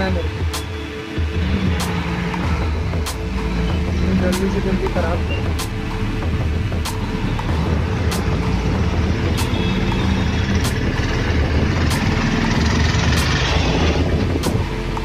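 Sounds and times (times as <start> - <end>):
vehicle engine running: 1.2 - 15.0.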